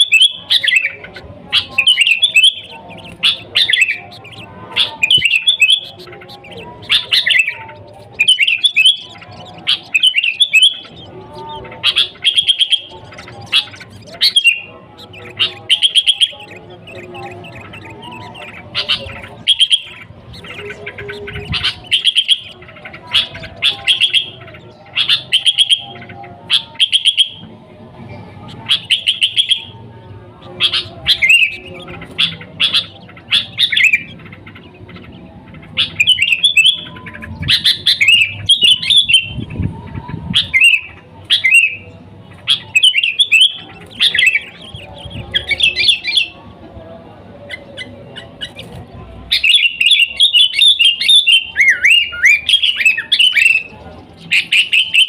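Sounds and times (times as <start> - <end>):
bird chirping: 0.0 - 27.5, 28.4 - 46.5, 47.4 - 55.0.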